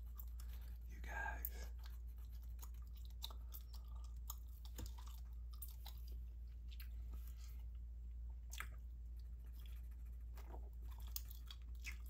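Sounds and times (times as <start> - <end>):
gum chewing: 0.0 - 12.0.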